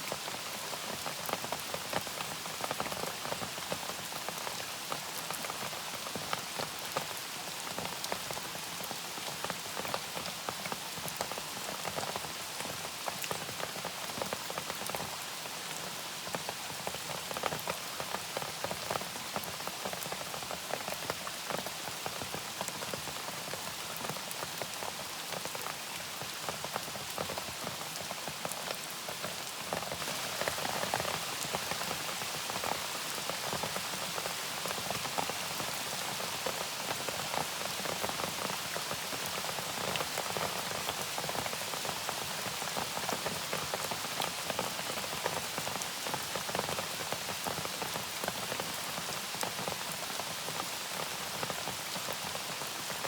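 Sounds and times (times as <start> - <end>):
steady rain: 0.0 - 53.0
raindrops ticking on a surface: 0.1 - 53.0.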